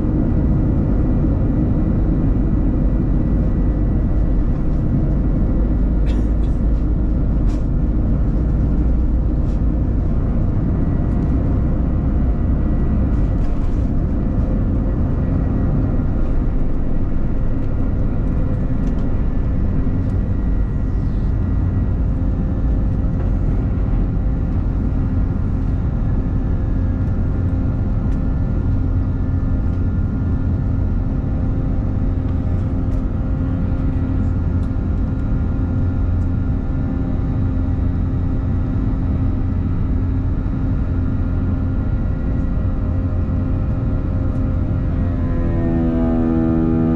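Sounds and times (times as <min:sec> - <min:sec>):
jet engine cabin drone: 0:00.0 - 0:46.9.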